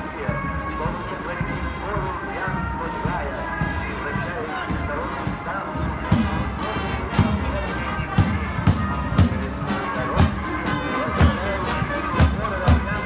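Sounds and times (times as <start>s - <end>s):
brass band playing a march: 0.0s - 13.0s
trumpets and trombones: 0.0s - 13.0s
bass drum beats: 0.2s - 13.0s.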